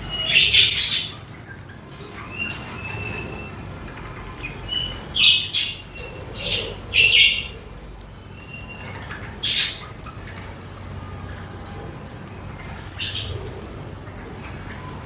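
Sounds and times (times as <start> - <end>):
budgerigars chirping and squawking: 0.0 - 7.6, 8.2 - 10.7, 12.4 - 15.0.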